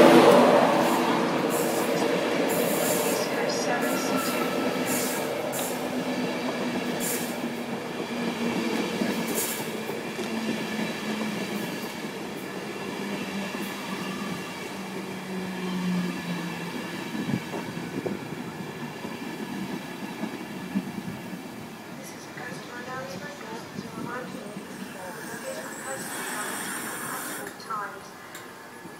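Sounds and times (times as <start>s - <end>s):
electric train whine: 0.0s - 28.9s.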